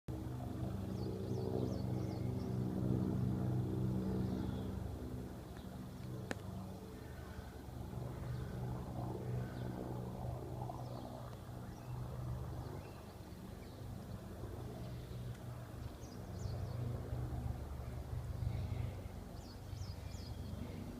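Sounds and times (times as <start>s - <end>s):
helicopter passing over: 0.1s - 20.9s.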